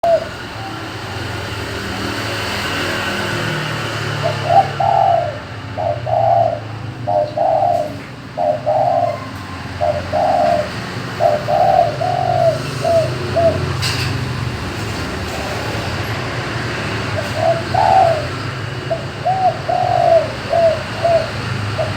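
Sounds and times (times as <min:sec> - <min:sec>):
dove cooing: 0:00.0 - 0:01.1, 0:03.8 - 0:21.9.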